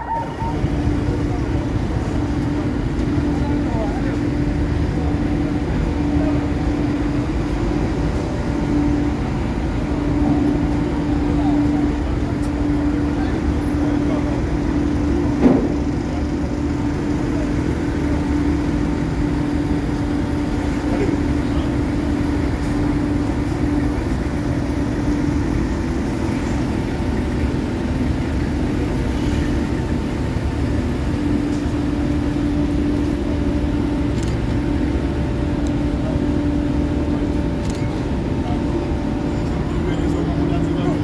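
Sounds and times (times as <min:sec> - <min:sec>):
vehicle engines running slowly: 0:00.0 - 0:41.0.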